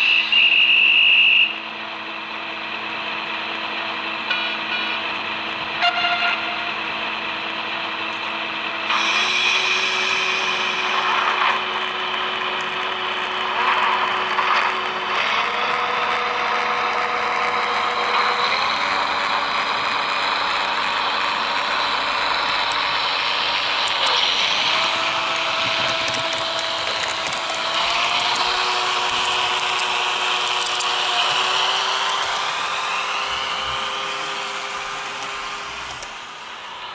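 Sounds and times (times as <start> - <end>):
model railcar diesel engine sound: 0.0 - 36.9.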